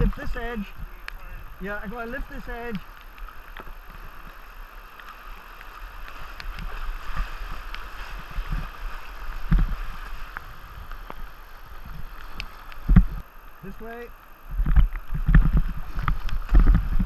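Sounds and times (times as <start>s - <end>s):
paddle strokes splashing: 0.0s - 14.0s
river current rushing: 0.0s - 17.0s.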